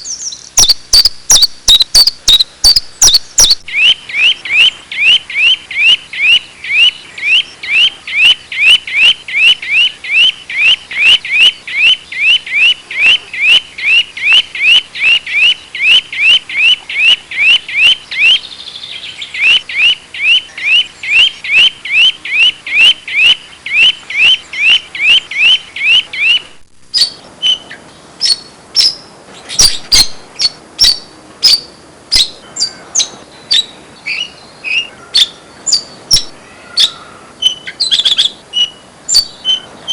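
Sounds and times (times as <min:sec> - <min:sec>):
bird calling sweeping note: 0:00.0 - 0:39.9
bird chirping sharply: 0:00.0 - 0:39.9.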